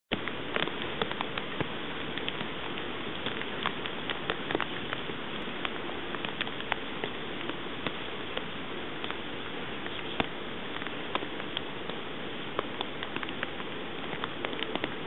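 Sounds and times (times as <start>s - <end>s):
rain falling: 0.1s - 15.0s
raindrops ticking close by: 0.1s - 15.0s.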